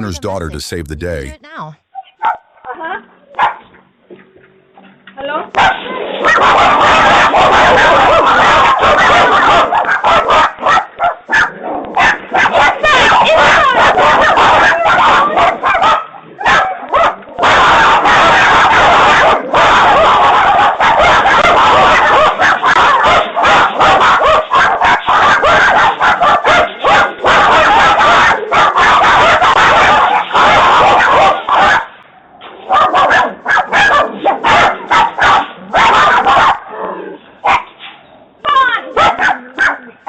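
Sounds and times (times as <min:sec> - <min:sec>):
puppy barking and yipping: 0:05.6 - 0:32.0, 0:32.7 - 0:36.6, 0:37.4 - 0:37.7, 0:38.5 - 0:39.9.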